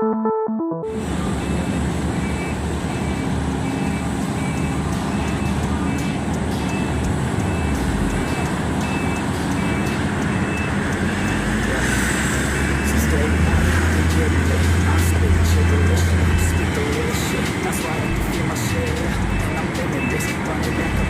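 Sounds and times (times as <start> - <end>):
reversing alarm beeps: 0.9 - 11.8, 12.5 - 13.7, 15.6 - 21.0.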